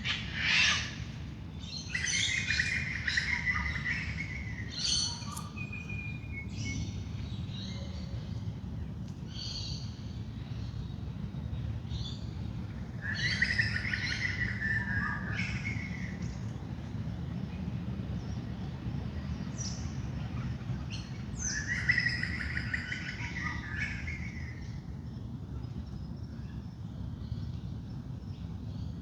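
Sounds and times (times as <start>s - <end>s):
birds calling and singing: 0.0s - 8.5s, 9.3s - 29.0s.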